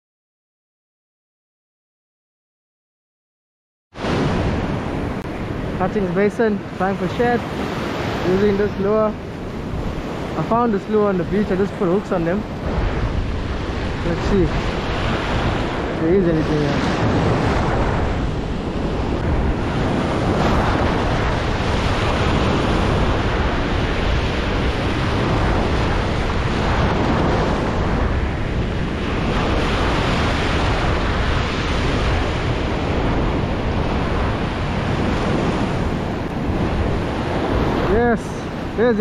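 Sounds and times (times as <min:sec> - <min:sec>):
ocean surf breaking: 0:04.0 - 0:39.0
wind buffeting microphone: 0:04.0 - 0:39.0.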